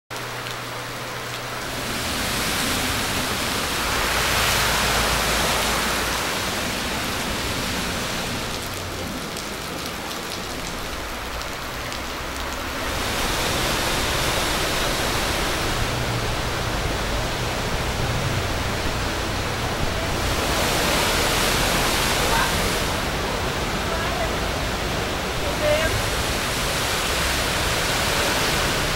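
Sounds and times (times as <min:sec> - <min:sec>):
heavy rain: 0:00.1 - 0:28.9
rushing floodwater: 0:00.1 - 0:28.9.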